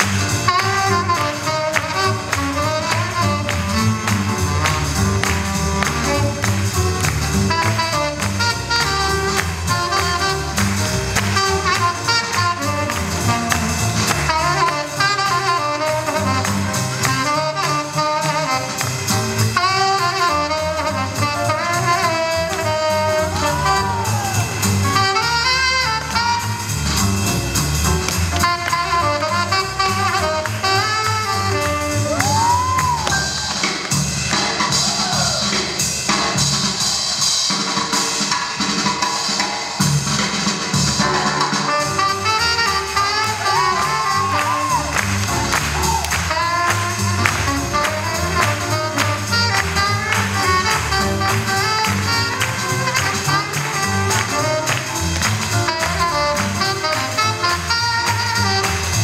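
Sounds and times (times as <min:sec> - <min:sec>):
swing jazz music: 0:00.0 - 0:59.0.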